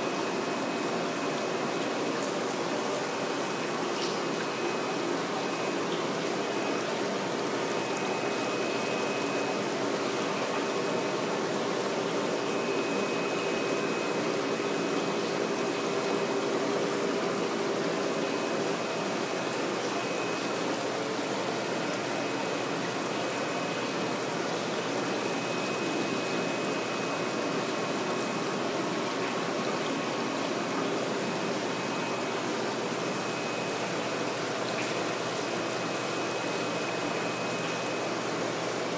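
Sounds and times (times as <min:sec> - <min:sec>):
water splashing into tanks: 0:00.0 - 0:38.9.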